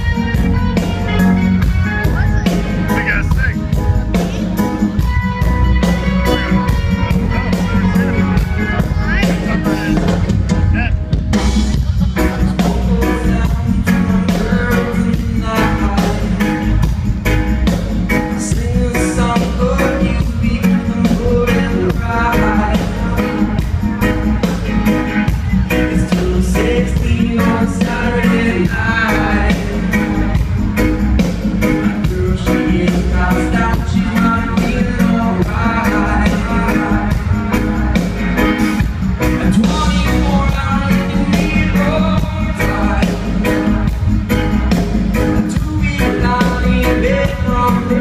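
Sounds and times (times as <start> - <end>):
live reggae band playing: 0.0 - 48.0
person singing: 3.6 - 48.0.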